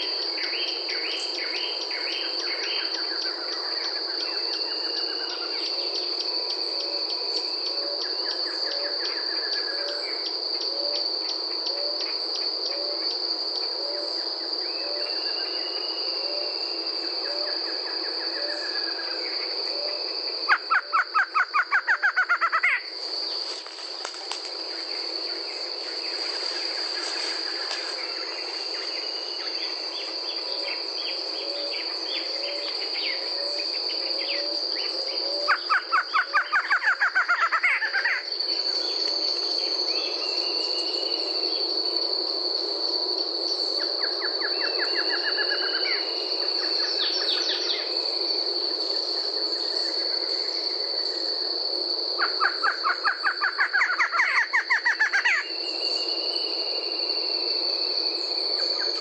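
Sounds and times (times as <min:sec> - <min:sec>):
high insect trill: 0:00.0 - 0:59.0.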